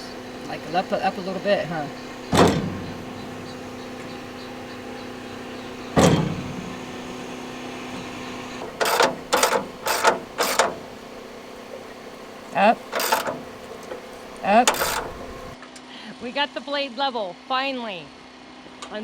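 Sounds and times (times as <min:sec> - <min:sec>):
rasping strokes: 0:00.0 - 0:15.6
sharp metal knocks: 0:00.0 - 0:15.6.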